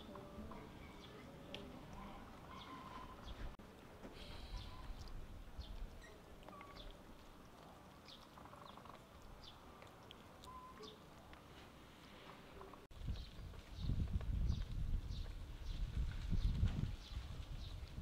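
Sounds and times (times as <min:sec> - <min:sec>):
small birds chirping: 0:00.0 - 0:03.6, 0:04.2 - 0:11.4, 0:12.6 - 0:18.0.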